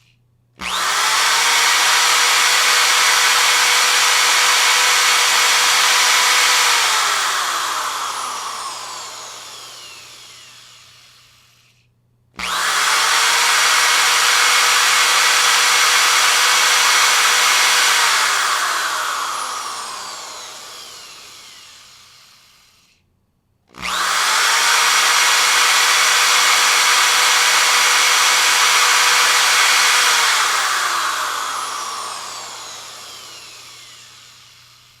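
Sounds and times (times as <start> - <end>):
power drill running: 0.6 - 11.8, 12.4 - 23.0, 23.7 - 35.0.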